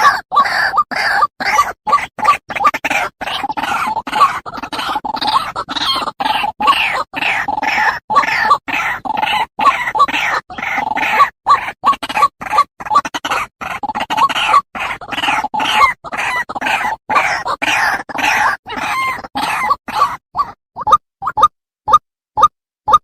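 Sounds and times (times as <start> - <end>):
waterhen croaking call: 0.0 - 21.5.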